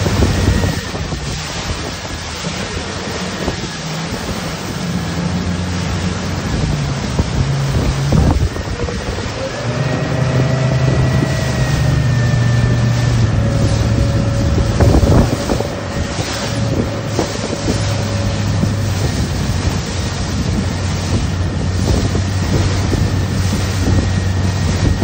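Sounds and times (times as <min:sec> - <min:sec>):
choppy water splashing: 0:00.0 - 0:25.0
motorboat engine humming: 0:00.0 - 0:25.0
wind buffeting microphone: 0:00.0 - 0:25.0.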